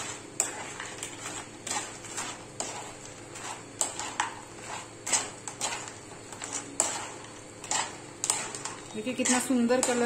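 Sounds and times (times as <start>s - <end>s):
spoon scraping frying pan: 0.0s - 10.0s.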